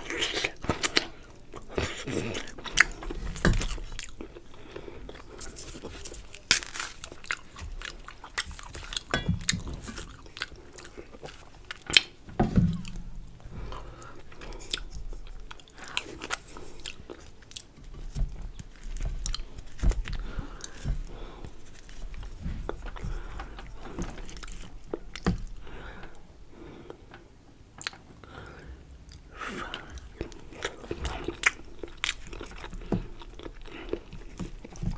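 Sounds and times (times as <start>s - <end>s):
person chewing and biting food: 0.0s - 26.2s, 29.1s - 34.9s.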